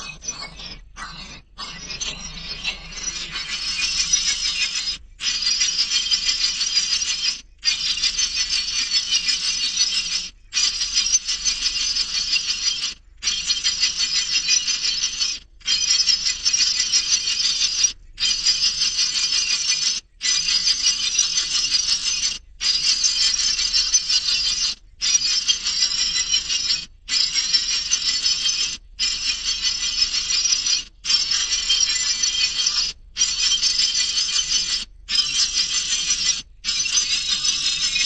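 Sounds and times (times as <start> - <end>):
high-pitched bird chirping: 0.0 - 38.0.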